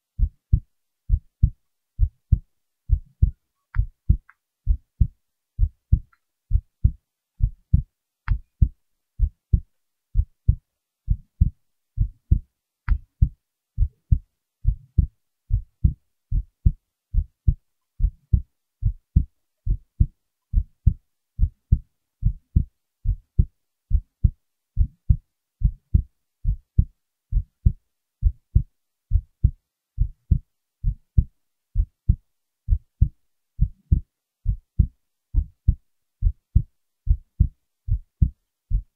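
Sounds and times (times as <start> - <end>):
heart beating: 0.2 - 38.9.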